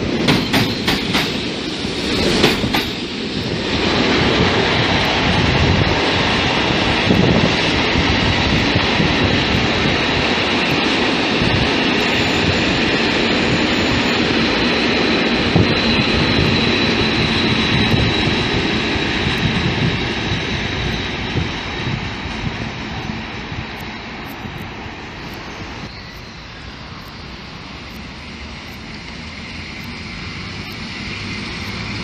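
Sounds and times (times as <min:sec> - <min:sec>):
freight train wheels on rail: 0:00.0 - 0:32.0.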